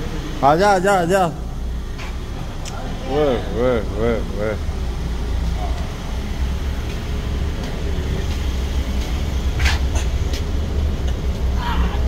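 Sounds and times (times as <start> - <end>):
sports car engine idling: 0.0 - 12.0.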